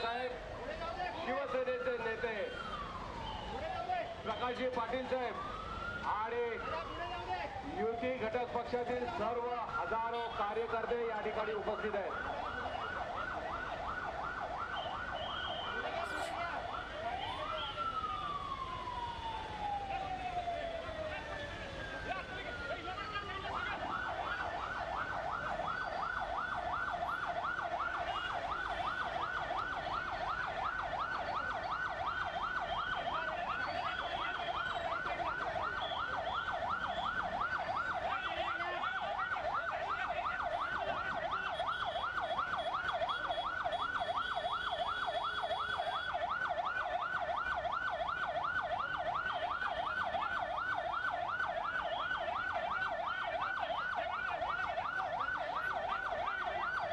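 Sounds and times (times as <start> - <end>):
electronic siren wailing: 9.6 - 56.9.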